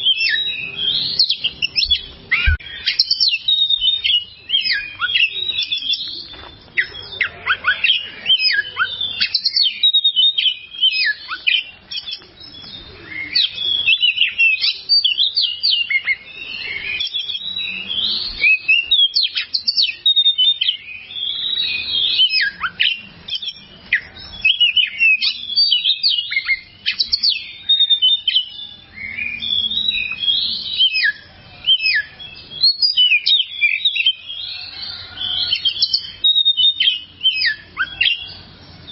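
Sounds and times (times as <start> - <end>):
magpie-robin singing: 0.0 - 38.9.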